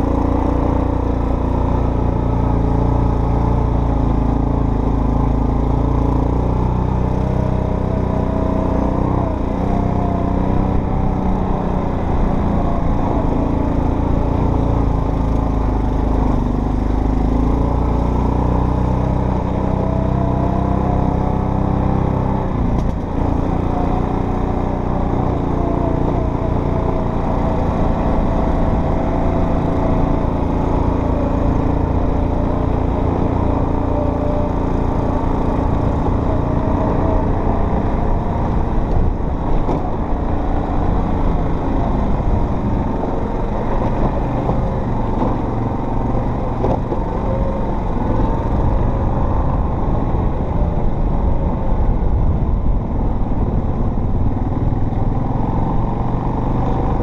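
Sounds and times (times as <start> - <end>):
off-road vehicle engine running: 0.0 - 57.0
rumble of the ride: 0.0 - 57.0.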